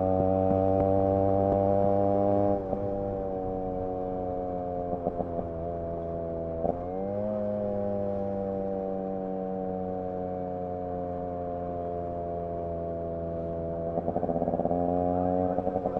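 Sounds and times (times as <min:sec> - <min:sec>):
two-stroke motorcycle engine running: 0:00.0 - 0:15.9.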